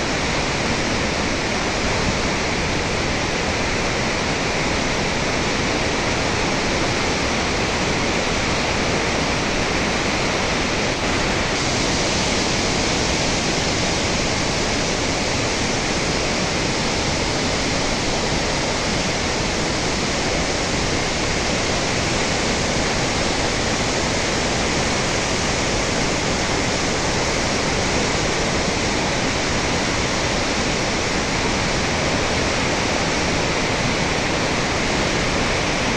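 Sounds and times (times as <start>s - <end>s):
water rushing from dam spillway: 0.0s - 35.9s.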